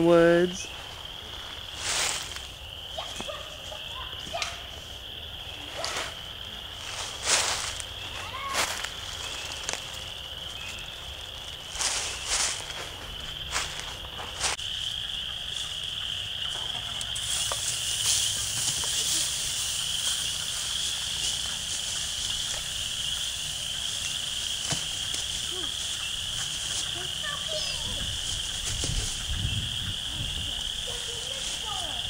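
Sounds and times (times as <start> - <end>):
campfire cooking hiss: 0.0 - 32.0
frogs calling in chorus: 0.0 - 32.0
footsteps in dry leaves: 0.5 - 16.3, 17.1 - 32.0.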